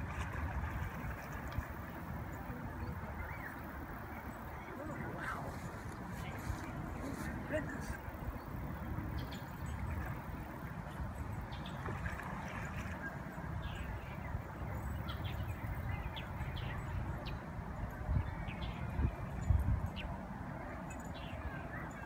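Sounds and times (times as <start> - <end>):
river rumble: 0.0 - 22.0.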